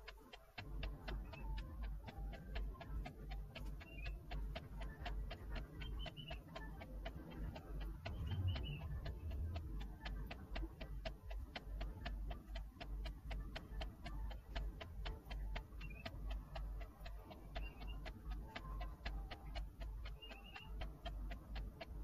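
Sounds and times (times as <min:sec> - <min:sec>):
rapid even ticking: 0:00.0 - 0:22.0
steady low hum: 0:00.0 - 0:22.0.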